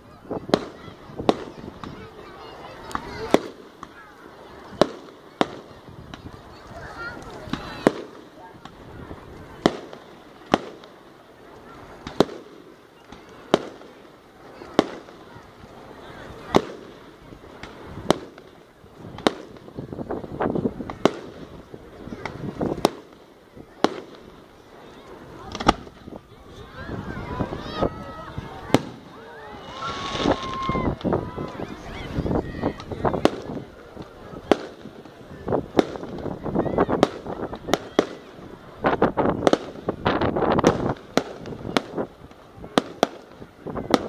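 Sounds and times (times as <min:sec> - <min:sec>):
fireworks faint pops: 0:00.0 - 0:44.0
fireworks loud bangs: 0:00.0 - 0:44.0.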